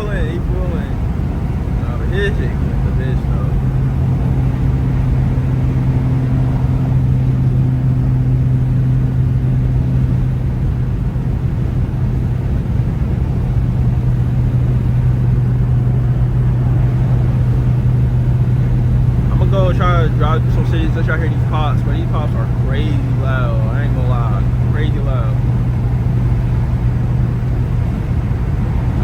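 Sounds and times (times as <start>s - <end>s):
car exhaust droning: 0.0s - 29.0s
road noise: 0.0s - 29.0s.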